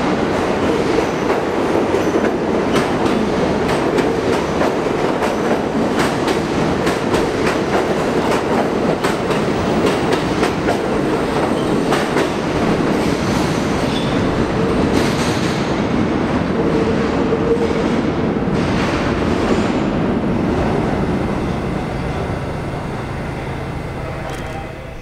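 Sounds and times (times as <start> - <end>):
subway train wheels clattering: 0.0 - 25.0.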